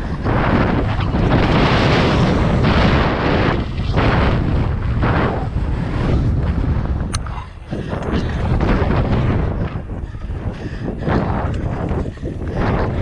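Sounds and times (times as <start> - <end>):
bike tyres rumbling over dirt: 0.0 - 13.0
wind buffeting microphone: 0.0 - 13.0.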